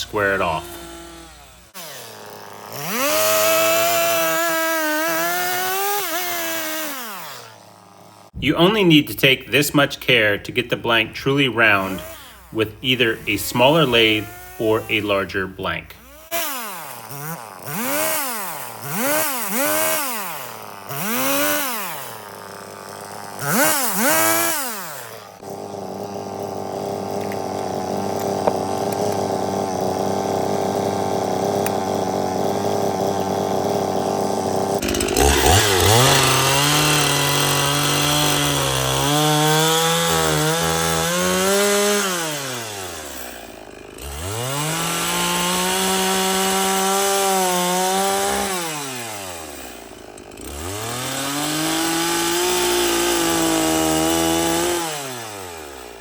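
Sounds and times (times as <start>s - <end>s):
chainsaw cutting log: 0.0s - 56.0s
chainsaw engine revving: 0.0s - 56.0s.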